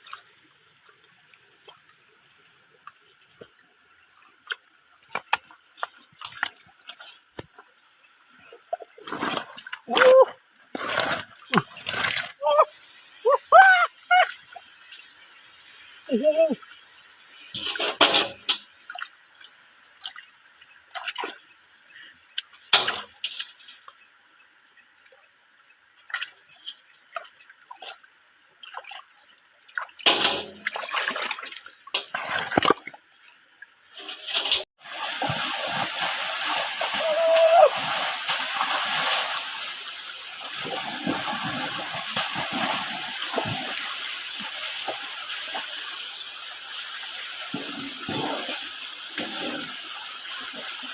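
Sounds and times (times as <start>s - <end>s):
water splashing and sloshing: 0.0s - 15.2s, 17.3s - 50.9s
flowing stream water: 0.0s - 50.9s.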